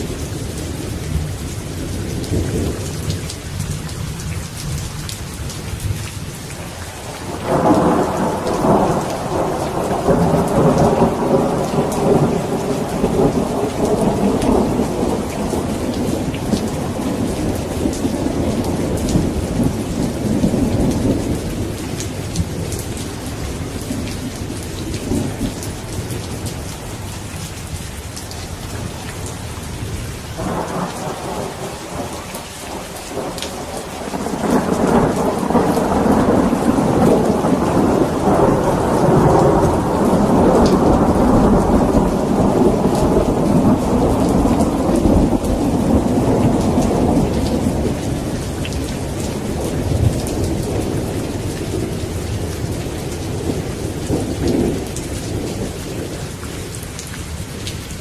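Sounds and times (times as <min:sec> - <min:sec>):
steady rain: 0:00.0 - 0:58.0
rolling thunder: 0:07.2 - 0:27.2, 0:28.9 - 0:56.7.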